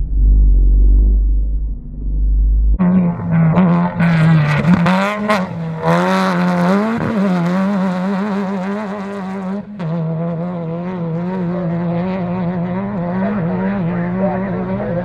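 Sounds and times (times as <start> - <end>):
race car engine at high revs: 2.8 - 15.0.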